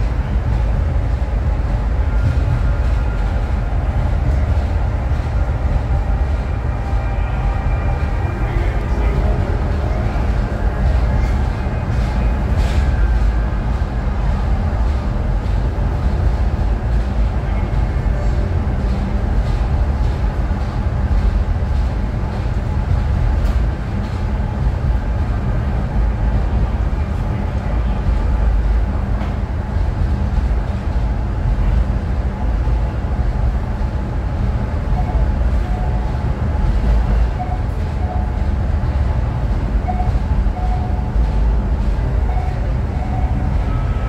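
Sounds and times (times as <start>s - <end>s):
funicular car low rumble: 0.0s - 44.0s.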